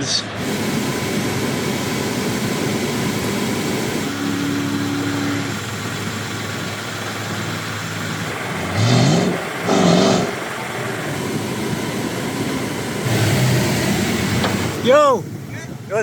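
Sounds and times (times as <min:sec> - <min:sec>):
car engine running: 0:00.0 - 0:16.0
steady rushing noise: 0:00.0 - 0:16.0.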